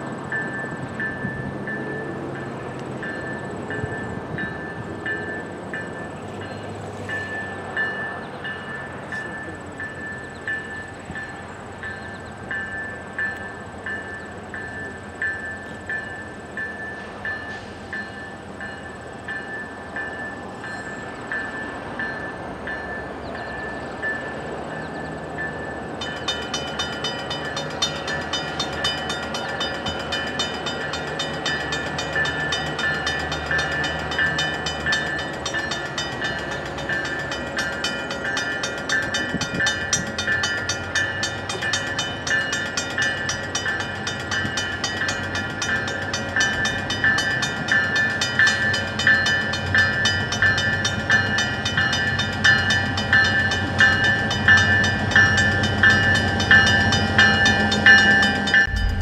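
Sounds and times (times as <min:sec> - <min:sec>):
diesel locomotive engine: 0:00.0 - 0:59.0
locomotive bell ringing: 0:00.0 - 0:59.0.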